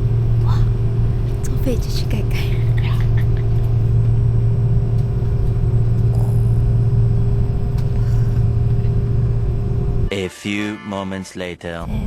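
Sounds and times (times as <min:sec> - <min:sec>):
airliner cabin rumble: 0:00.0 - 0:10.1
deep hum: 0:00.0 - 0:10.1
faint steady whine: 0:00.0 - 0:10.1.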